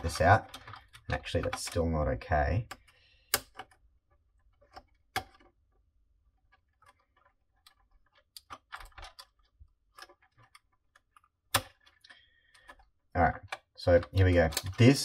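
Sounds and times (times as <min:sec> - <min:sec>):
clicks of cable connectors: 0:00.0 - 0:03.8, 0:04.4 - 0:05.7, 0:06.4 - 0:15.0.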